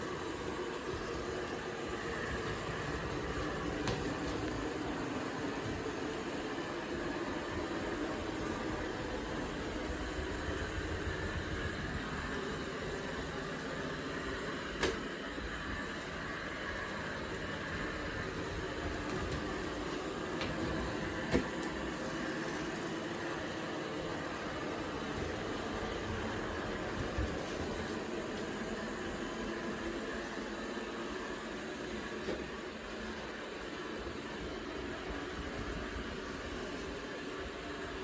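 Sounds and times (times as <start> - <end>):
robot vacuum cleaner whirring: 0.0 - 38.0.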